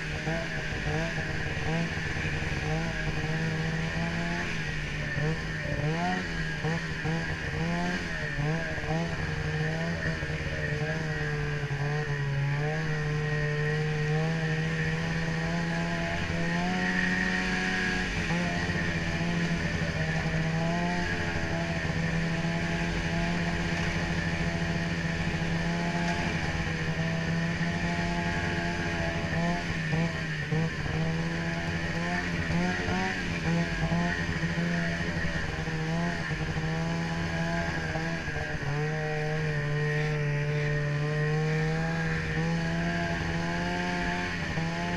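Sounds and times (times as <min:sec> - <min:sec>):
snowmobile engine running: 0:00.0 - 0:44.9.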